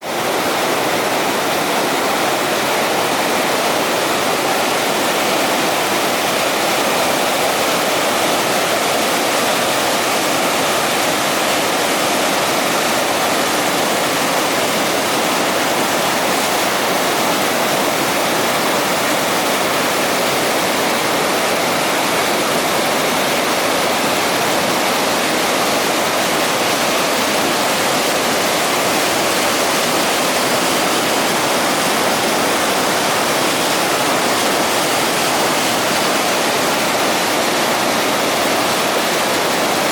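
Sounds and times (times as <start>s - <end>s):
waterfall pouring over rocks: 0.0s - 39.9s.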